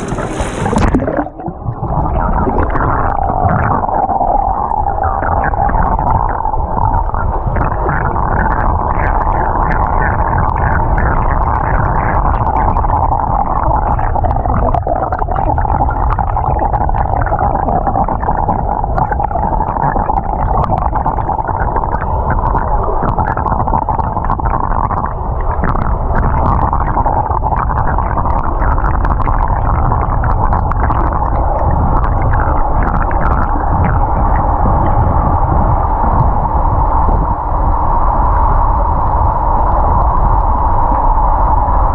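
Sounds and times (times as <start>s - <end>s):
muffled underwater rumble and hiss: 0.0s - 41.9s.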